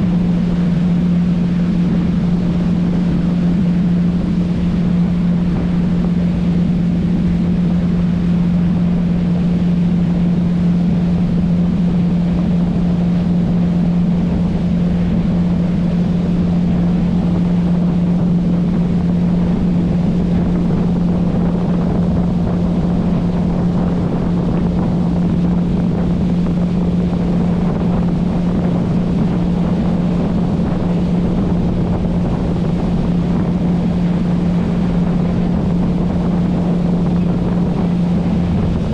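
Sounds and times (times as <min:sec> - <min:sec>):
motorboat engine humming: 0:00.0 - 0:38.9
water rushing: 0:00.0 - 0:38.9
wind noise on microphone: 0:00.0 - 0:38.9.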